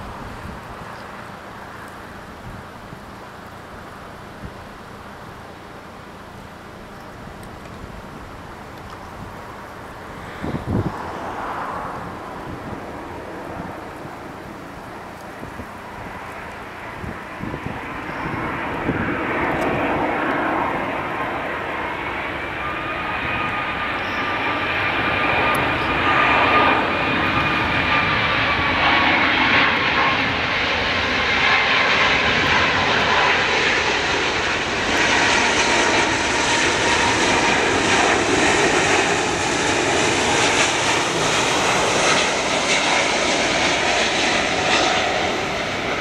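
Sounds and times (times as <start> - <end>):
jet engines roaring and whining: 0.0 - 46.0.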